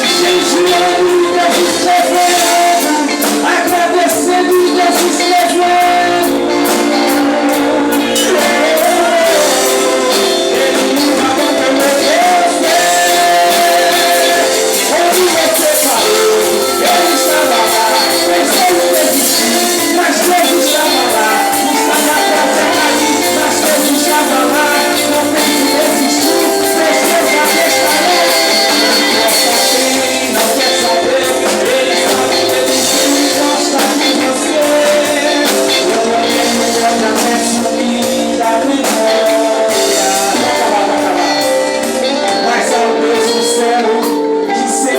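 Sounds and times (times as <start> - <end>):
band accompaniment with steady beat: 0.0 - 44.9
person singing: 0.0 - 44.9.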